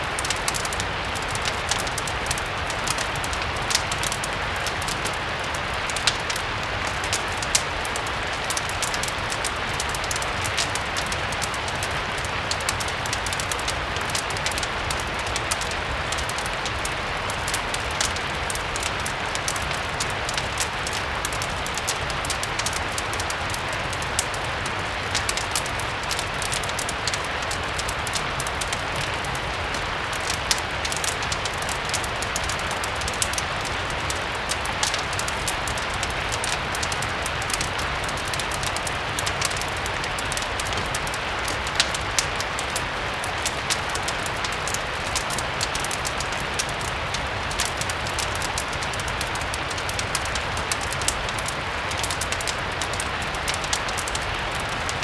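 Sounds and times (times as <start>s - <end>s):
fireplace crackling: 0.0s - 55.0s
steady rain: 0.0s - 55.0s.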